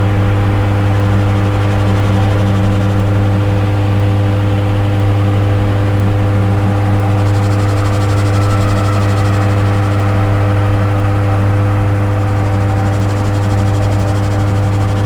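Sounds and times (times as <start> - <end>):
dark ambient electronic drone: 0.0 - 15.0.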